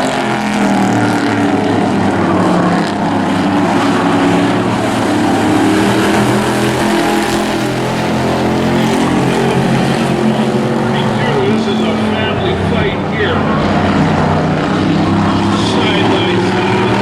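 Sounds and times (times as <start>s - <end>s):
model race truck engines racing: 0.0s - 17.0s.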